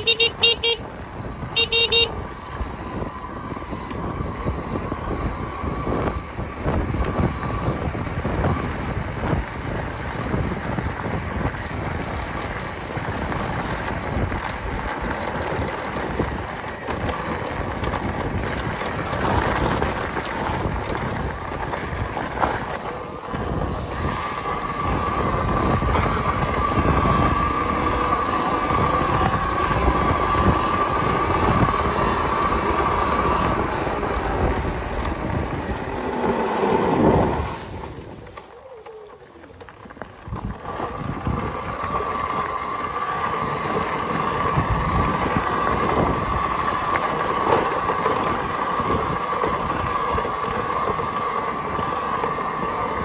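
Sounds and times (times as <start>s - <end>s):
tyres rumbling on gravel: 0.0s - 53.0s.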